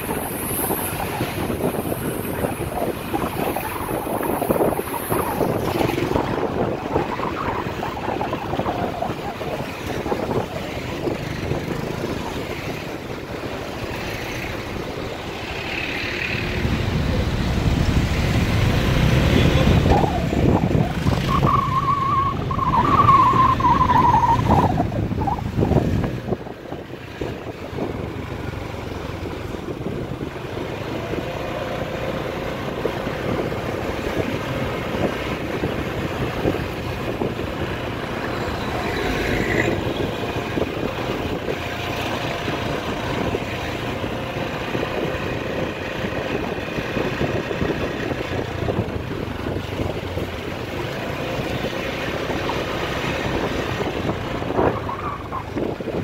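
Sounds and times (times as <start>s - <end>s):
passing cars and vans: 0.0s - 56.0s
road noise: 0.0s - 56.0s.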